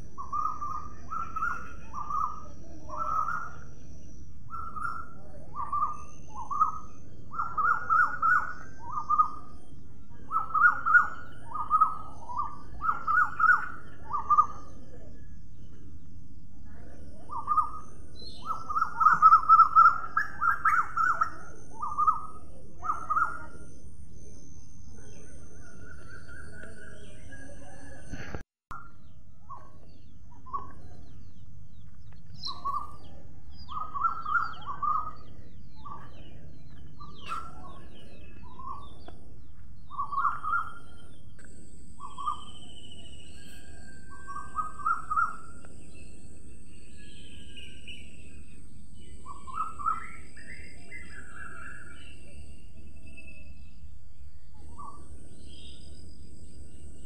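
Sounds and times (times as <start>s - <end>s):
birds chirping: 0.0s - 57.0s
low background noise: 0.0s - 57.0s.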